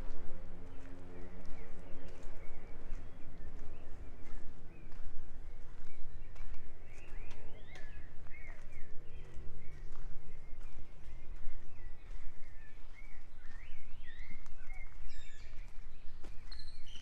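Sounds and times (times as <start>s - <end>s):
steady low rumble: 0.0s - 16.3s
birds chirping: 0.0s - 17.0s
footsteps on a path: 0.0s - 17.0s.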